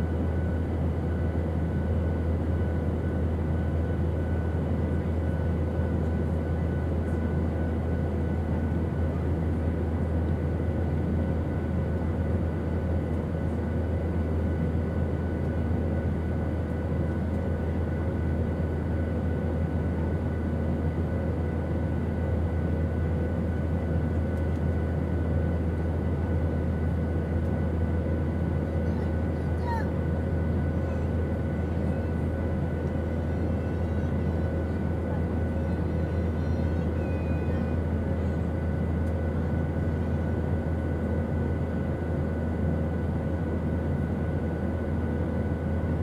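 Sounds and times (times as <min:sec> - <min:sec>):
airplane engines droning: 0:00.0 - 0:46.0.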